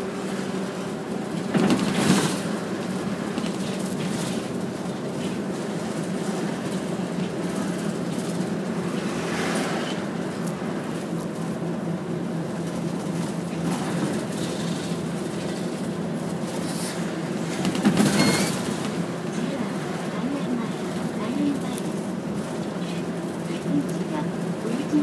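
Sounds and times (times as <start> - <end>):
bus engine drone: 0.0 - 25.0
bus jolt: 0.0 - 25.0
road and tyre noise: 0.0 - 25.0.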